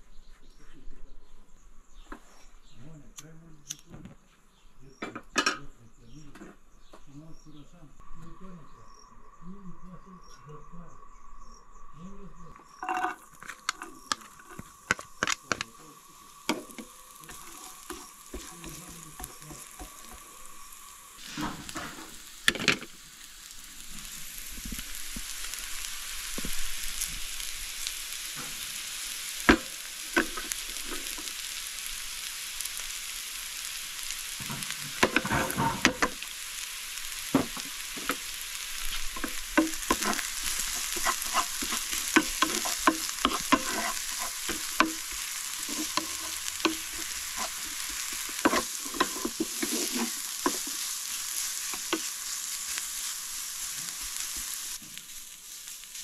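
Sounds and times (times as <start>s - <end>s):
vegetables sizzling in a pan: 5.0s - 56.0s.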